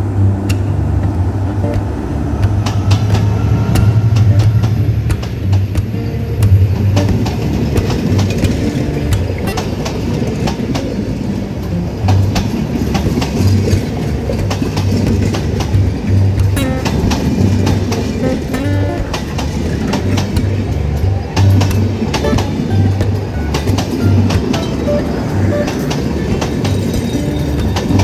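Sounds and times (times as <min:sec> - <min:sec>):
diesel locomotive engine: 0:00.0 - 0:28.0
train wheels clattering on rails: 0:02.4 - 0:28.0.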